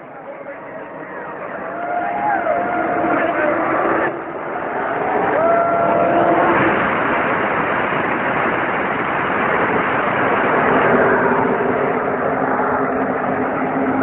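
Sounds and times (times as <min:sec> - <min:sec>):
race car engines roaring: 0:00.0 - 0:14.0.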